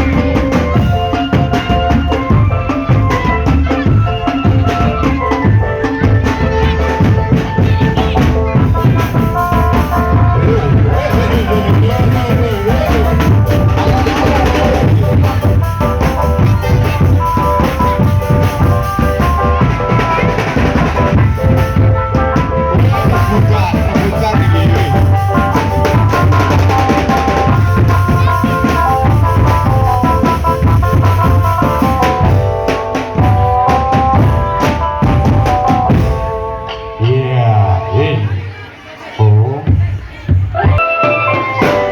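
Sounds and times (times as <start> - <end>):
drum band playing: 0.0 - 39.0, 39.6 - 41.9.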